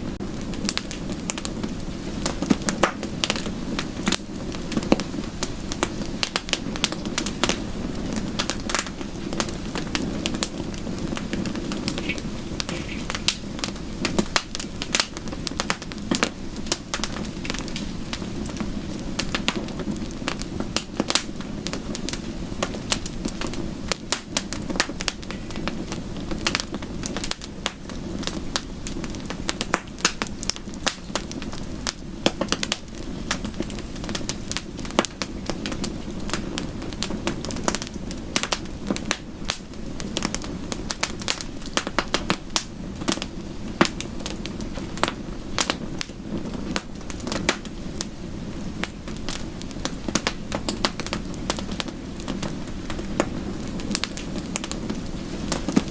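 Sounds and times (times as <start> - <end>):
soft rush of rain: 0.0 - 55.9
wood fire crackling and popping: 0.0 - 55.9.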